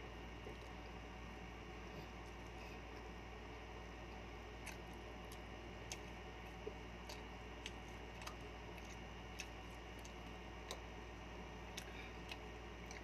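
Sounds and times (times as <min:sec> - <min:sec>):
steady low hum: 0:00.0 - 0:13.0
eating by hand clicks and smacks: 0:00.4 - 0:01.0, 0:02.0 - 0:13.0.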